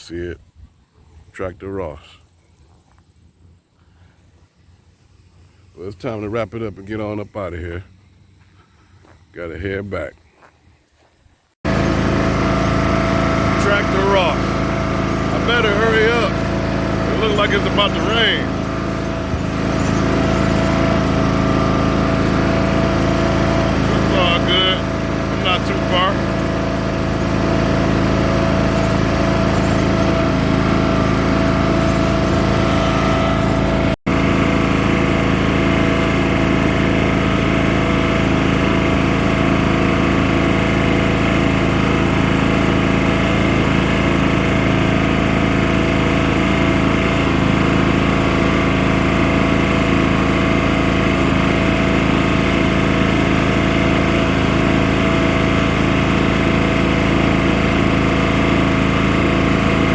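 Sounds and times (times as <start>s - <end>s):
tractor engine running: 1.0s - 10.1s, 10.9s - 59.9s.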